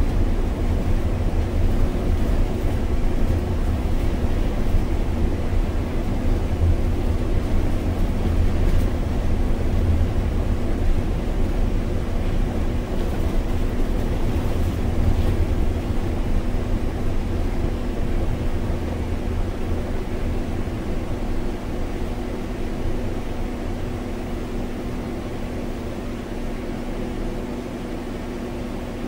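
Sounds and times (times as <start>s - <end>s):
bus engine and road rumble: 0.0s - 29.0s.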